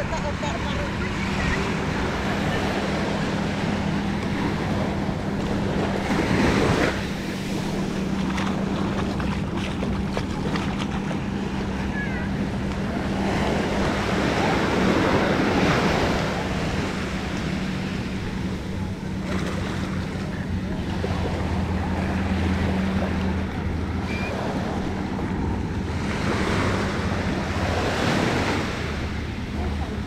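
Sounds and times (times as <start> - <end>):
small waves breaking on shore: 0.0 - 30.0.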